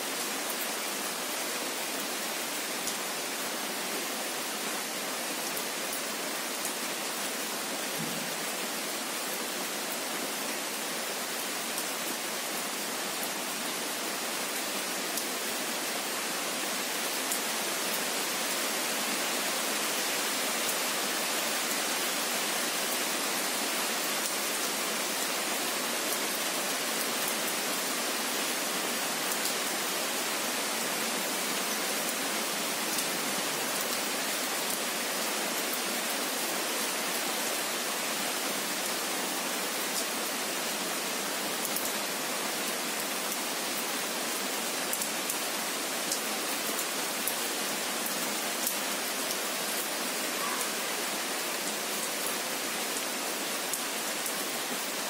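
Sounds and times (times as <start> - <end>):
rain falling on trees: 0.0 - 55.0.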